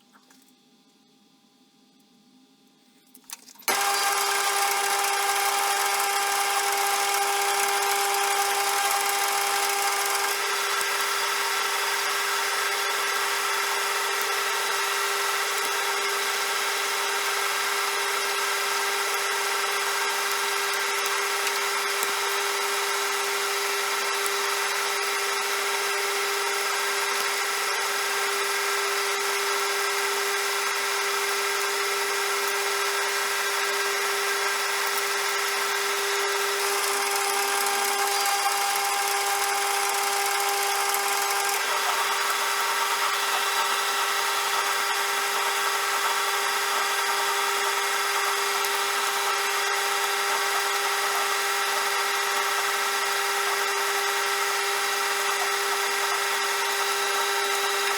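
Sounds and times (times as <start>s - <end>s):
metal lathe whine: 3.7s - 57.9s.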